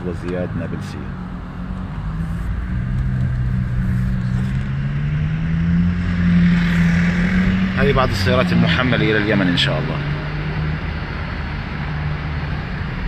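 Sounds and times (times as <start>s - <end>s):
vehicle engine speeding up: 1.5s - 13.0s.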